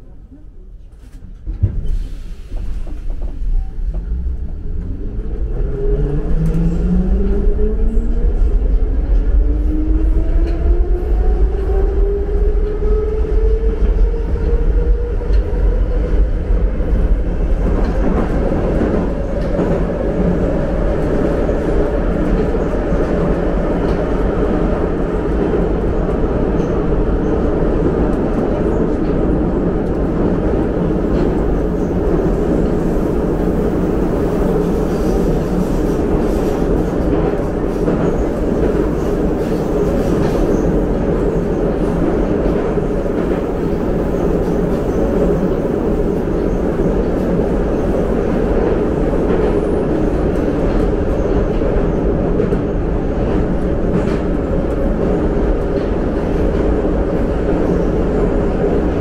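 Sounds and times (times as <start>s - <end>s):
train car rumble and rattle: 0.0s - 59.0s.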